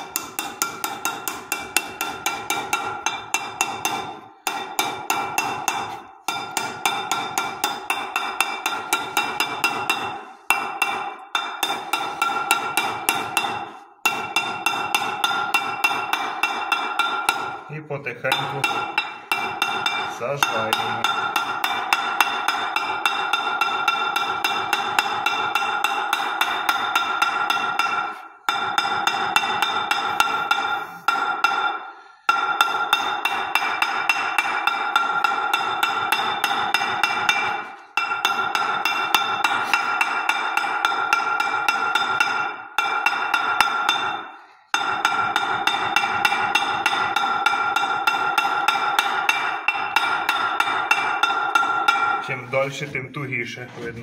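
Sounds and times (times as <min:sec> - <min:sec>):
hammer striking steel punch: 0:00.0 - 0:52.4.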